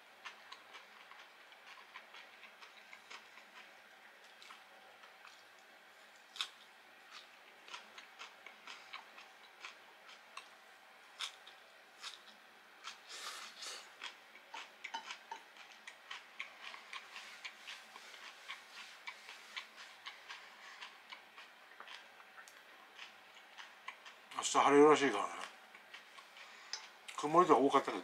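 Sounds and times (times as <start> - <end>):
chewing crisp fried food: 0.0 - 28.0.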